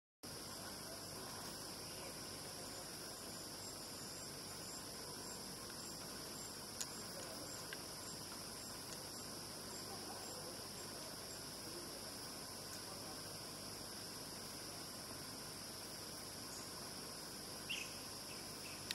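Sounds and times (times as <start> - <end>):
forest insects hissing: 0.2 - 18.9.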